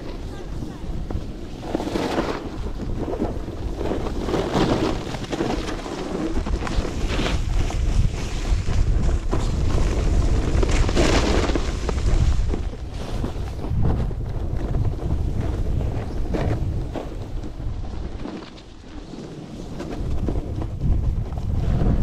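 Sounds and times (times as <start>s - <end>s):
snowboard edge scraping snow: 0.0s - 22.0s
wind buffeting microphone: 0.0s - 22.0s.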